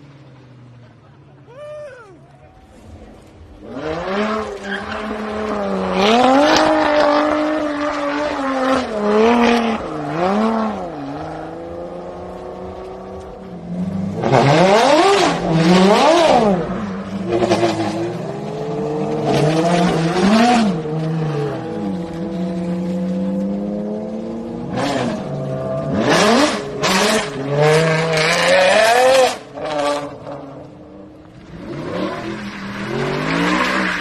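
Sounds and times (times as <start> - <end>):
car engine revving: 2.5 - 34.0
sports car engine revving hard: 3.4 - 34.0.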